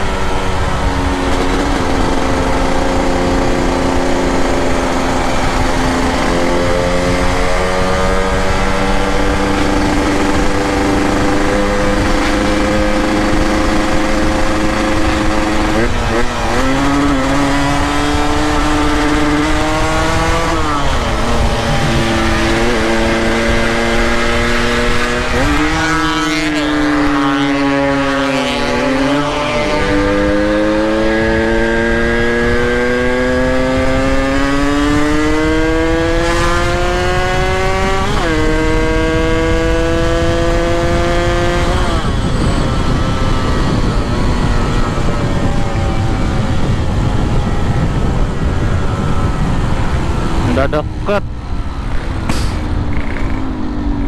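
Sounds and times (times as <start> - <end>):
motorcycle engine: 0.0 - 54.0
wind and road rumble: 0.0 - 54.0.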